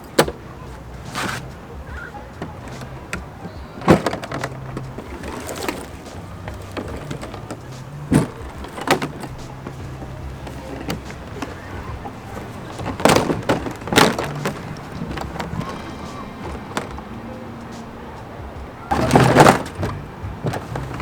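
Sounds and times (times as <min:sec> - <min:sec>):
plastic sheet knocking and clattering: 0:00.0 - 0:17.1, 0:18.9 - 0:21.0.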